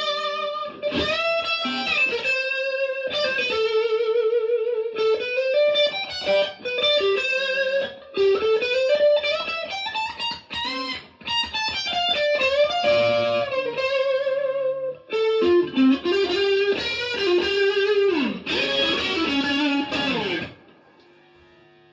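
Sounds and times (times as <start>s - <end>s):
electric guitar lead melody: 0.0s - 21.7s.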